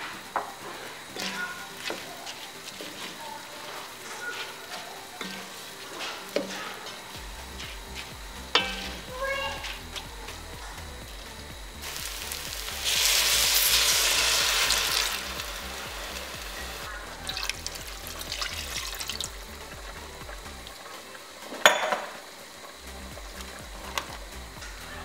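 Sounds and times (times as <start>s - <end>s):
water sizzling in hot pot: 0.0s - 10.0s, 11.0s - 25.0s
background music with steady beat: 0.0s - 25.0s.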